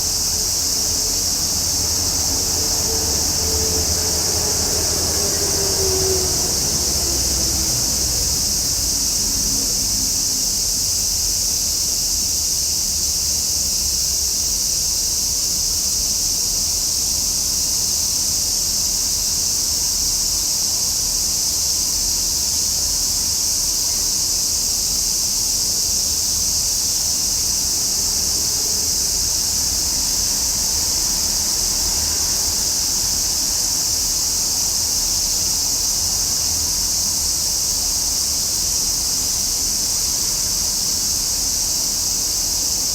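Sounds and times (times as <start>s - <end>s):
cicadas droning: 0.0s - 42.9s.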